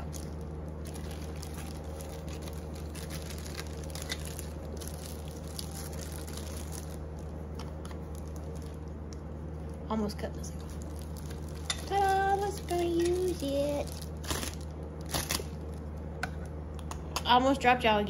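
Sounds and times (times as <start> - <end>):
plastic bag crinkling: 0.0 - 16.1
steady low hum: 0.0 - 18.0.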